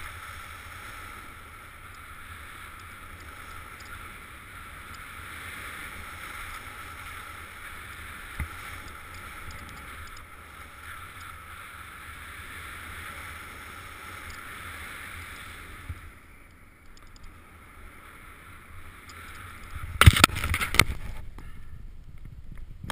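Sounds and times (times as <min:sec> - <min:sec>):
snow hiss and rushing air: 0:00.0 - 0:21.3.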